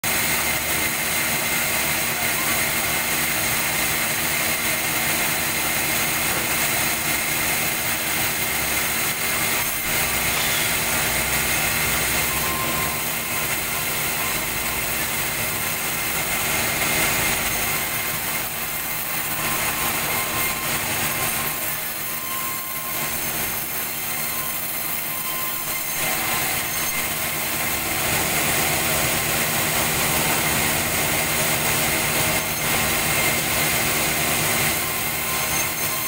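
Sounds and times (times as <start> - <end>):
band saw cutting log: 0.0 - 36.0.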